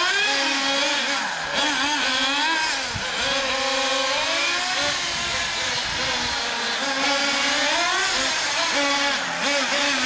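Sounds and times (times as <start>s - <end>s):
small nitro engines revving: 0.0s - 10.0s.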